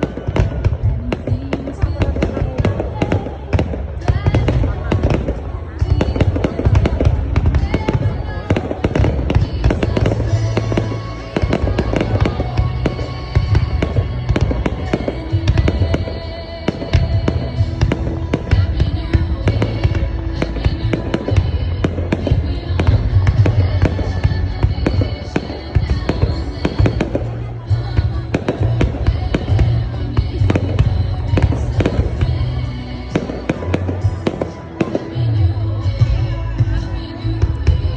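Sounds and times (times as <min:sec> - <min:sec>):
fireworks cracks and bangs: 0:00.0 - 0:35.4
music with low bass notes: 0:05.9 - 0:37.9.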